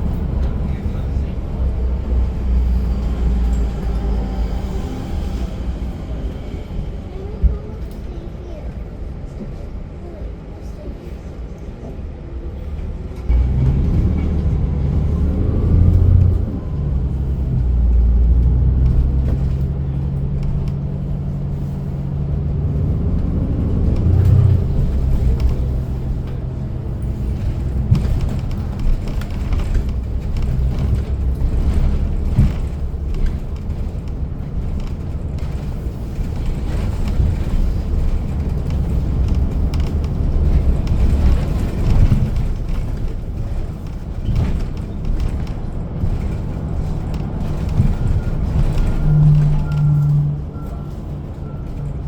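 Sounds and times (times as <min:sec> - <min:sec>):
bus engine drone: 0:00.0 - 0:52.0.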